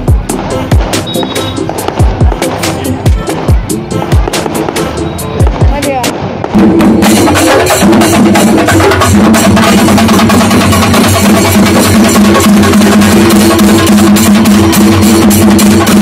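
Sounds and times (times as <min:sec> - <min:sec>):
drums beating rapidly: 0:00.0 - 0:16.0.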